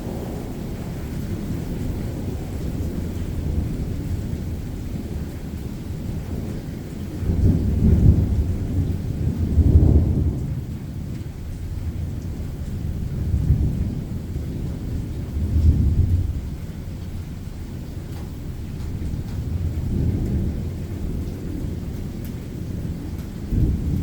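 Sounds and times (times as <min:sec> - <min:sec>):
rain falling: 0:00.0 - 0:24.0
rolling thunder: 0:00.0 - 0:24.0.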